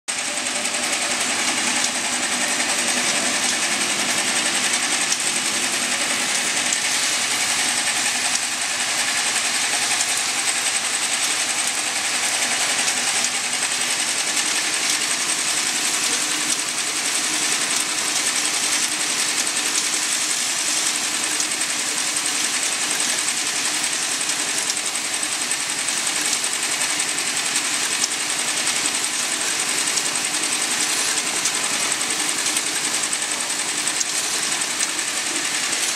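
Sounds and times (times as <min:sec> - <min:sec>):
high machine whine: 0:00.1 - 0:35.9
mechanical clatter of machinery: 0:00.1 - 0:35.9.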